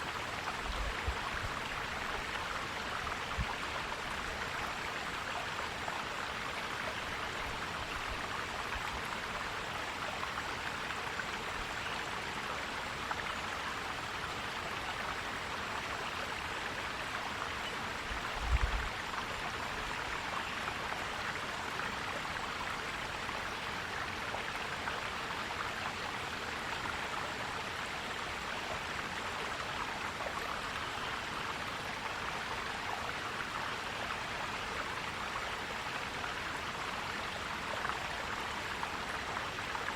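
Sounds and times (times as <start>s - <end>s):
stream flowing and gurgling: 0.0s - 39.9s.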